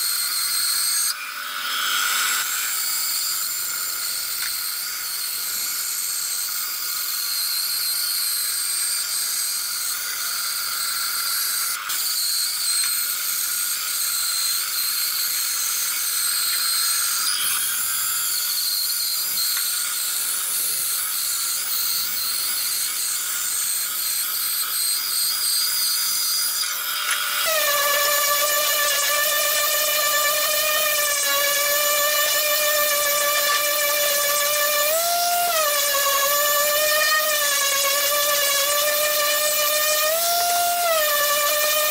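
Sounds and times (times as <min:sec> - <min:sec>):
band saw cutting wood: 0:00.0 - 0:41.9.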